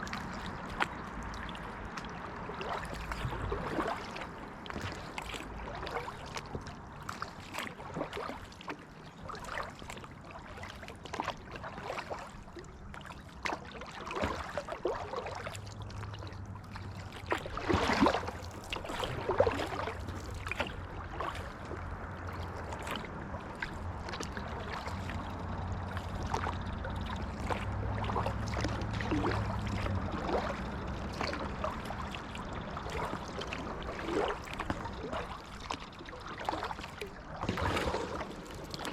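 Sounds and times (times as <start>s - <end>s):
paddle splashing in water: 0.0s - 38.9s.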